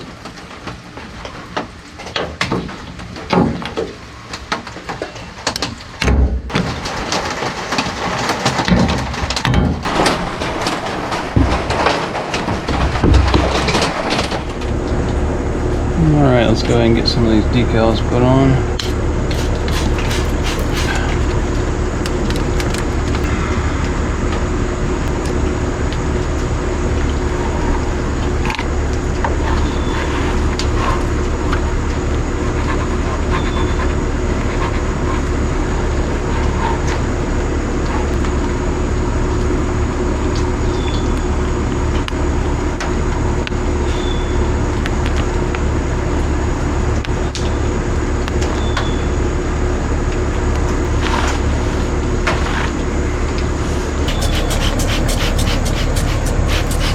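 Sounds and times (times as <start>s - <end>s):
mechanical drone with low hum: 0.0s - 56.9s.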